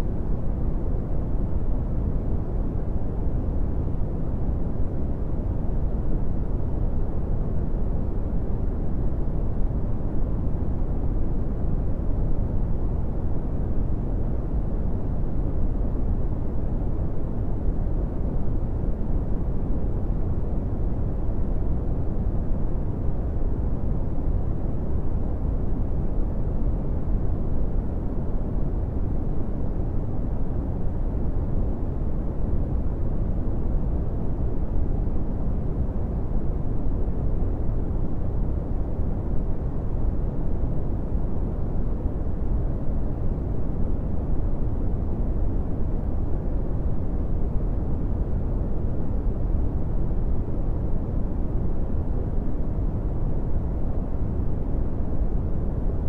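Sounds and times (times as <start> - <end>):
brown noise rumbling hiss: 0.0 - 56.0.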